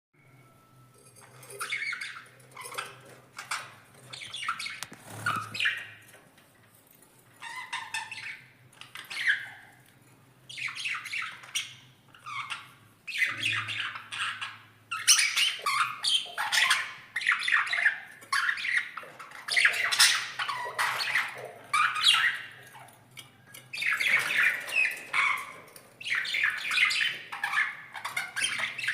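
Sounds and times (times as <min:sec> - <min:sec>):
cage birds chirping and squawking: 0:01.0 - 0:28.9.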